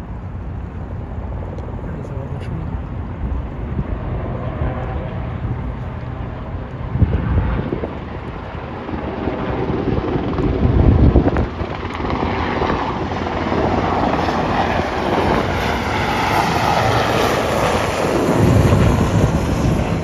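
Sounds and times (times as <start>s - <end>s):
helicopter rotor and turbine noise: 0.0s - 20.0s.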